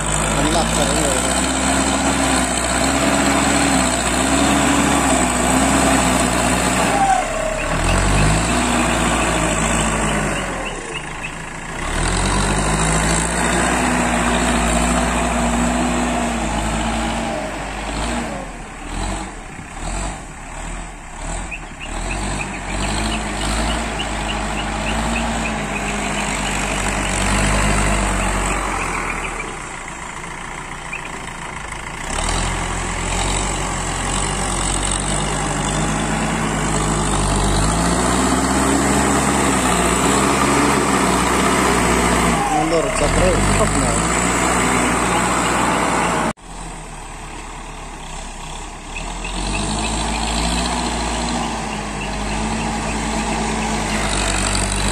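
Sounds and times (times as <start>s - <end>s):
diesel engine under load: 0.0s - 54.9s.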